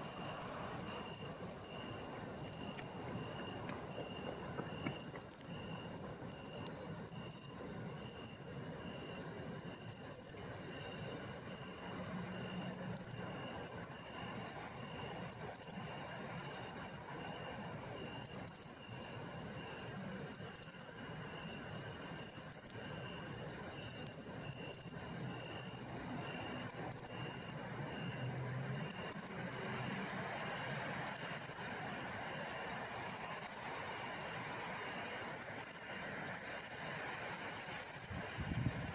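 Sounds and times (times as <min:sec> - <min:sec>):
cricket chirping: 0:00.0 - 0:38.9
faint steady high tone: 0:00.0 - 0:38.9.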